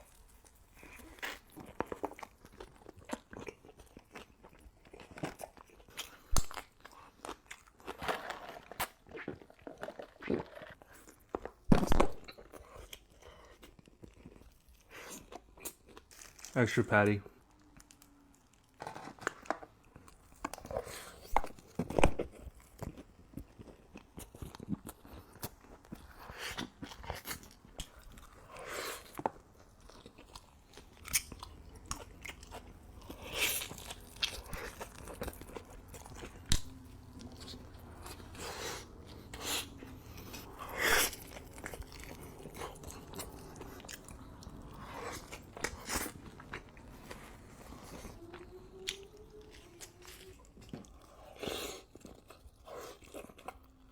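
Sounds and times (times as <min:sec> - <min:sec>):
wet chewing: 0:00.0 - 0:16.6, 0:17.3 - 0:53.9
crisp crunching of food: 0:00.0 - 0:53.9.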